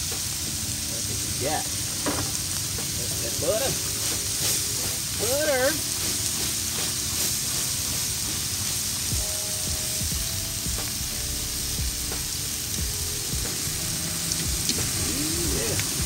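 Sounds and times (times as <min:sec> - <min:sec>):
shrimp sizzling on a grill: 0:00.0 - 0:16.0.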